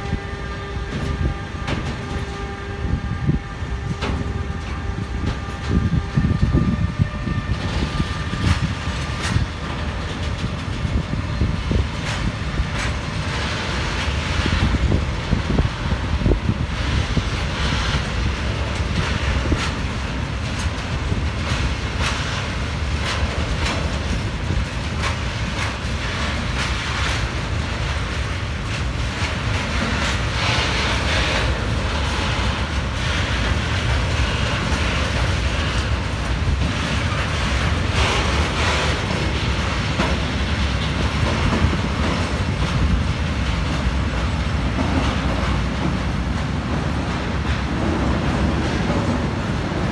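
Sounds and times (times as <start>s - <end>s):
train rumbling: 0.0s - 49.9s
wheels clattering over rail joints: 8.4s - 49.9s.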